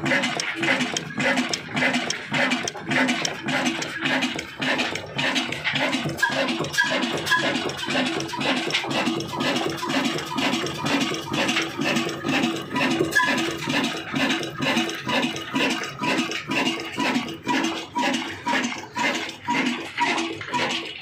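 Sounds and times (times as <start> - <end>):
diesel engine rhythmic beat: 0.0 - 21.0.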